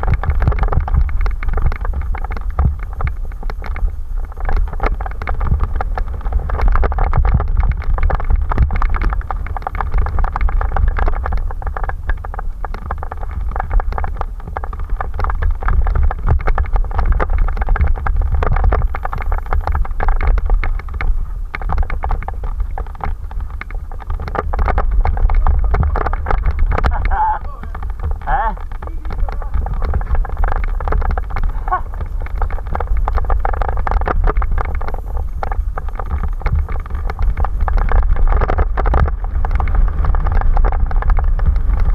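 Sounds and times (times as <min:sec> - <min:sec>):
bike rattling over bumps: 0:00.0 - 0:41.9
tyres on dirt: 0:00.0 - 0:41.9
wind rumble on microphone: 0:00.0 - 0:41.9.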